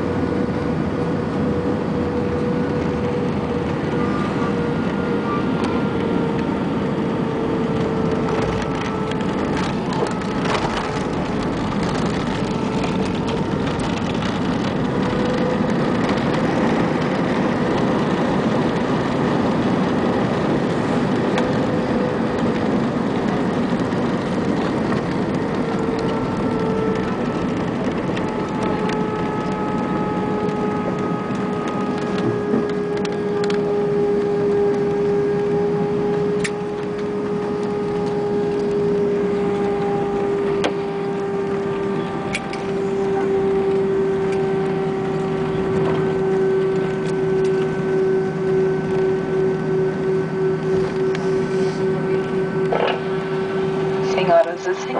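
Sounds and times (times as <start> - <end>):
engine whine tones: 0.0 - 54.9
jet engine cabin rush: 0.0 - 54.9.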